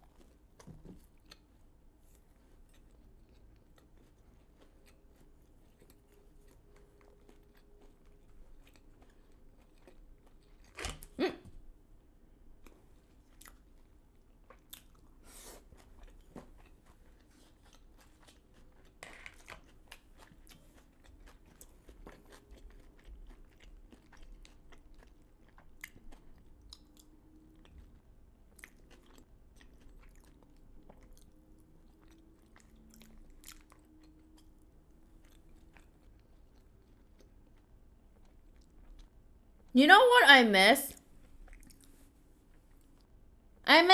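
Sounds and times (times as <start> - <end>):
chewing food: 0.0 - 39.7, 41.3 - 43.1.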